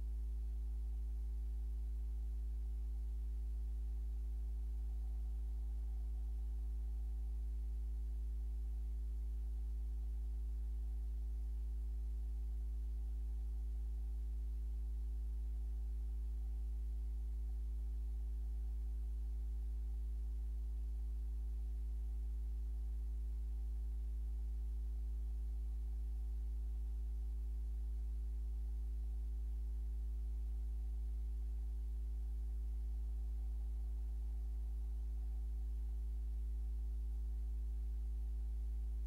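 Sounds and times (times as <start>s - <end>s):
low electrical hum: 0.0s - 39.0s.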